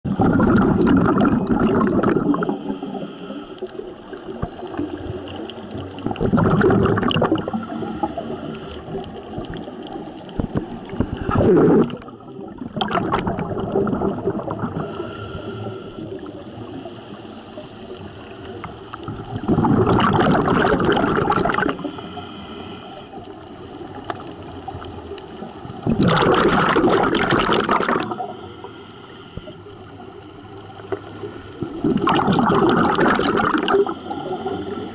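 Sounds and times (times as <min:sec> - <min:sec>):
underwater exhaled breath bubbling: 0:00.0 - 0:23.3, 0:25.7 - 0:34.9
faint hiss of water: 0:00.1 - 0:34.9.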